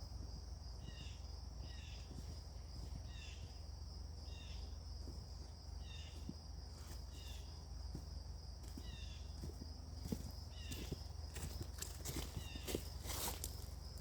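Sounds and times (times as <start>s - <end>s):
high-pitched insect trill: 0.0s - 14.0s
songbird chirping: 0.0s - 14.0s.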